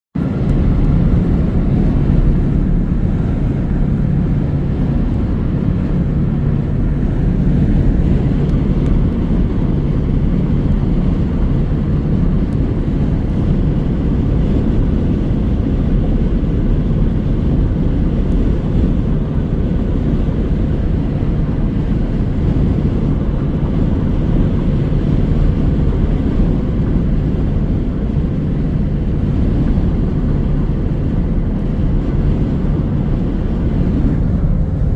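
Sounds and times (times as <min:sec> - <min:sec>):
car road and engine drone: 0:00.1 - 0:34.9.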